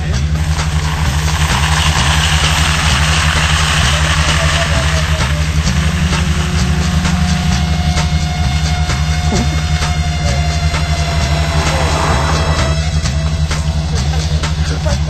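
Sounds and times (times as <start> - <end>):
loud rushing noise: 0.0 - 14.1
background music with bass line: 0.0 - 15.0.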